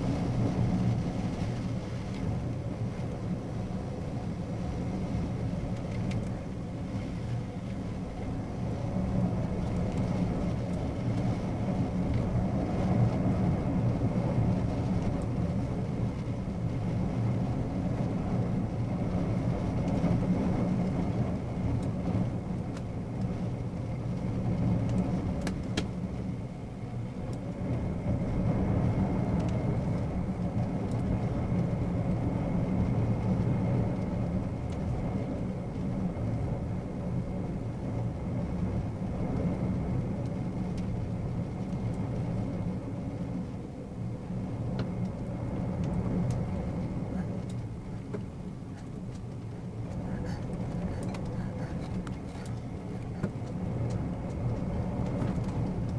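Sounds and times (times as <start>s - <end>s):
low steady rumble: 0.0s - 55.9s.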